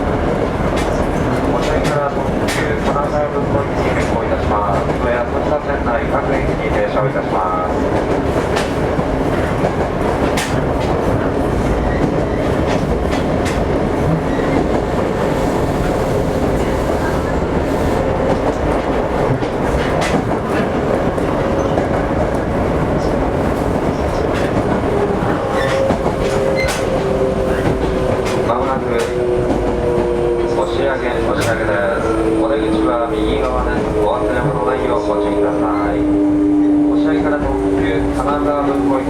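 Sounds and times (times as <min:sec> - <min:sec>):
rail joint clicks: 0:00.0 - 0:39.0
train rumbling inside car: 0:00.0 - 0:39.0.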